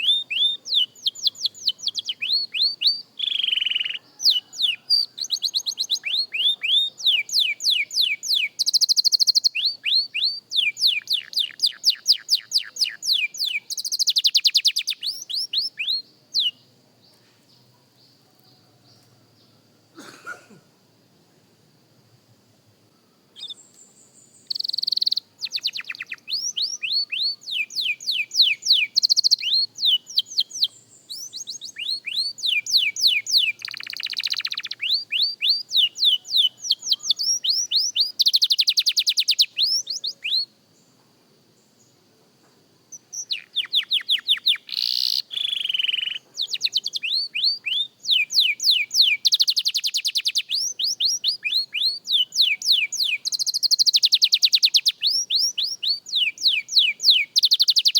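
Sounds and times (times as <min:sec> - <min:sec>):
canary singing trills: 0:00.0 - 0:19.6, 0:22.9 - 0:40.5, 0:42.9 - 0:57.9.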